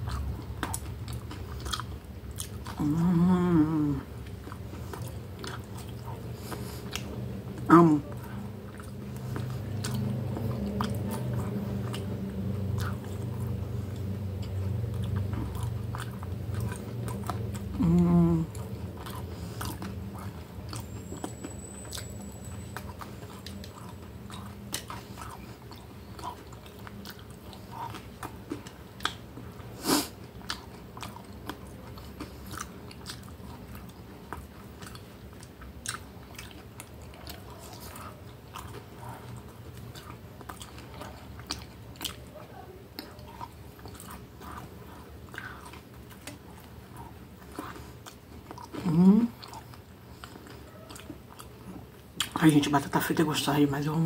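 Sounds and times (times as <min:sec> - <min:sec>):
chewing fries: 0:00.0 - 0:54.0.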